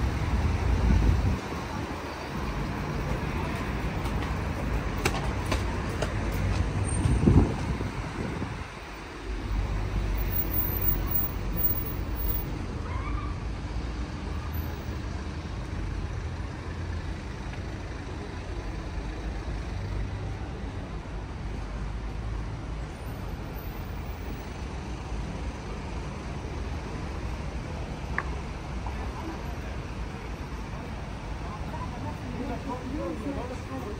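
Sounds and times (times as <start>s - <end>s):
road traffic hum: 0.0s - 33.9s.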